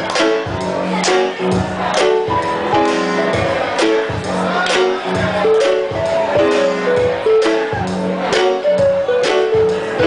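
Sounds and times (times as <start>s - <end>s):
keyboard chords: 0.0s - 10.0s
steady drum beat: 0.0s - 10.0s.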